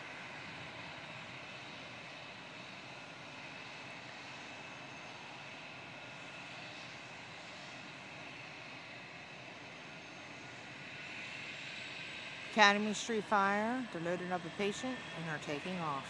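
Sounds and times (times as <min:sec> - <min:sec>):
helicopter engine whine: 0:00.0 - 0:16.0
helicopter rotor noise: 0:00.0 - 0:16.0.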